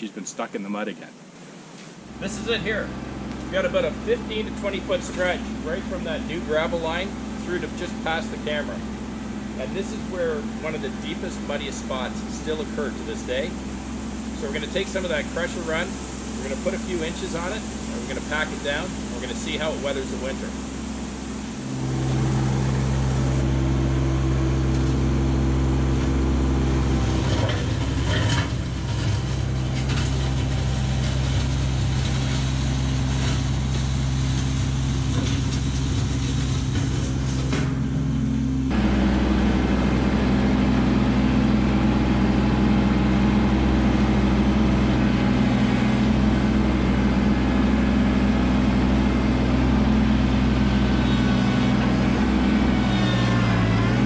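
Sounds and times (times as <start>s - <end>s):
tractor diesel engine running: 2.0s - 54.0s.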